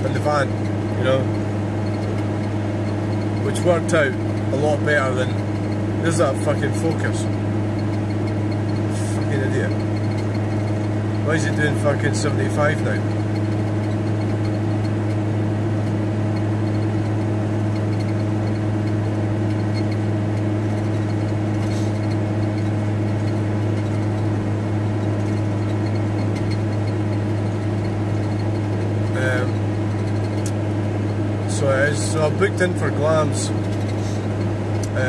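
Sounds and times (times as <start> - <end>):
van engine and road drone: 0.0 - 35.0.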